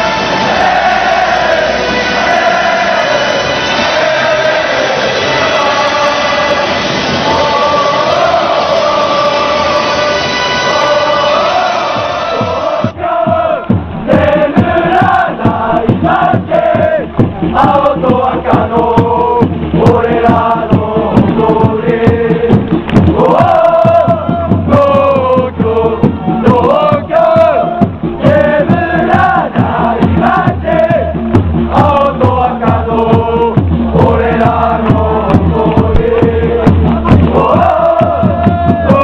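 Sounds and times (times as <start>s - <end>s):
crowd singing a chant: 0.0s - 39.0s
steady beat: 0.0s - 39.0s.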